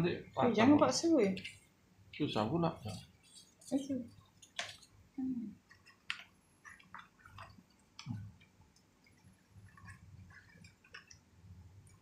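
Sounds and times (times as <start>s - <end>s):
faint clicks and scrapes: 1.2s - 2.2s, 2.8s - 5.0s, 5.6s - 12.0s.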